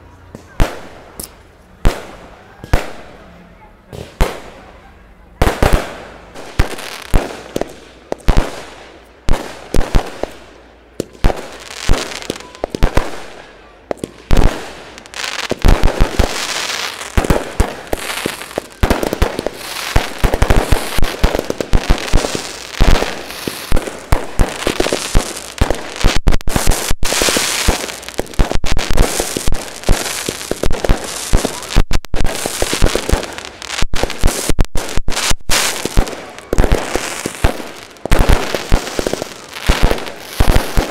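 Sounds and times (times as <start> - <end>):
fireworks crackle: 5.4 - 40.9.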